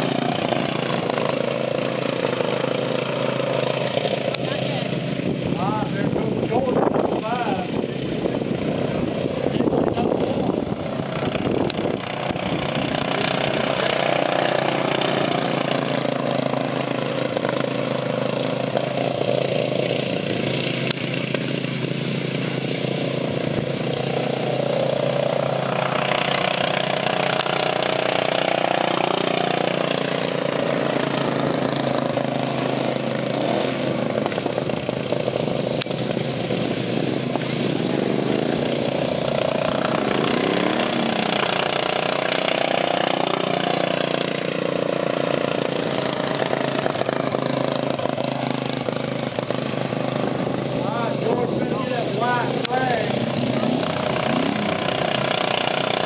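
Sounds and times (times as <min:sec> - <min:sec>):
racing lawn mower engines revving: 0:00.0 - 0:56.0.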